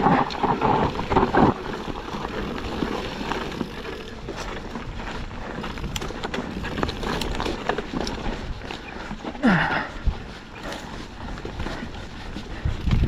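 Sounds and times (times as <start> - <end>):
bike clicks and rattles: 0.0 - 13.0
bike tyres on loose dirt: 0.0 - 13.0
wind on microphone: 0.0 - 13.0.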